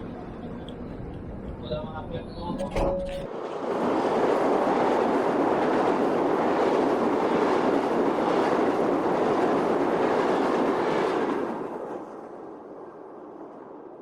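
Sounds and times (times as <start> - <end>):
high-speed train rushing: 0.0 - 14.0.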